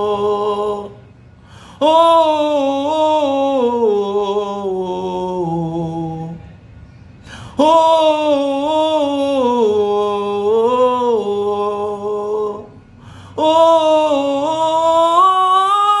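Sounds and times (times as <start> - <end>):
man singing gospel song: 0.0 - 1.0, 1.8 - 6.4, 7.4 - 16.0.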